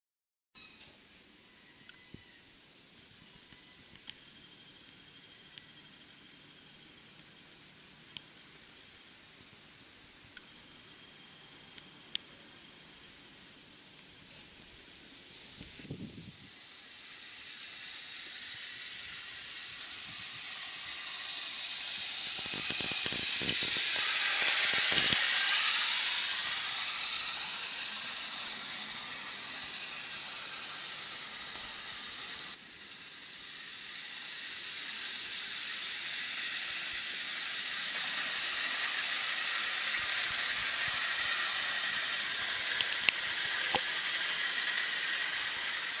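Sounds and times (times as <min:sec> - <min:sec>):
clockwork toy train whirring: 0:00.6 - 0:46.0.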